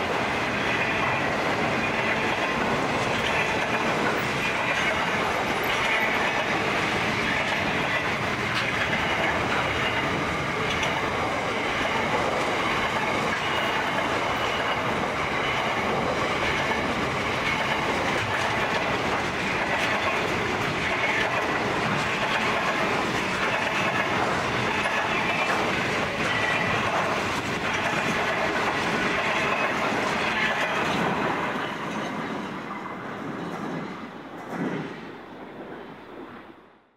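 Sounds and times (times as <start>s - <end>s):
freight train wheels clattering on rails: 0.0s - 35.7s.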